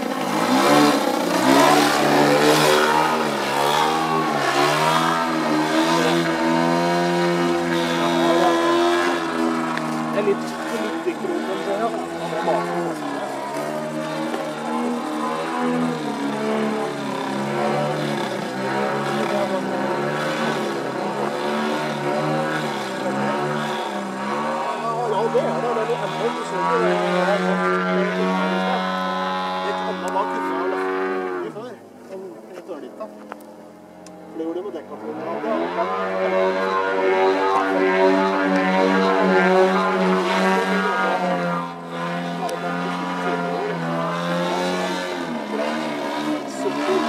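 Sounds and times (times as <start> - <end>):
model plane motor droning: 0.0 - 47.0.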